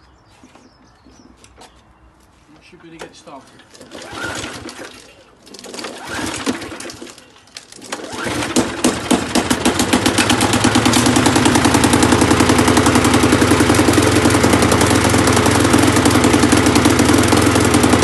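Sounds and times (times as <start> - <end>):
engine clunking: 2.9 - 18.0
lawn mower engine running: 3.6 - 18.0.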